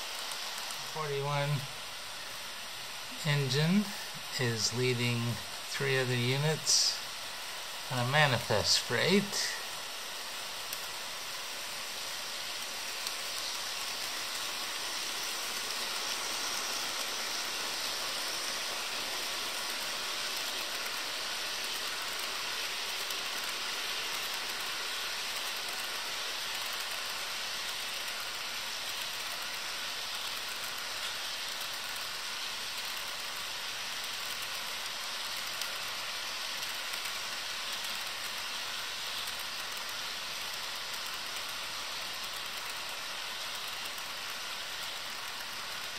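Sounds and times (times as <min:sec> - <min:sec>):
model train wheels rushing hiss: 0:00.0 - 0:45.9.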